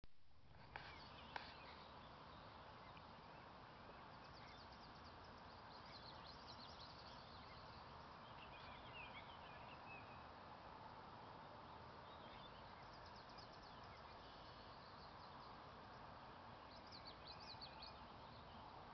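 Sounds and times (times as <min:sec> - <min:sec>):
low steady hiss: 0:00.0 - 0:18.9
faint birdsong chirping: 0:00.4 - 0:18.9.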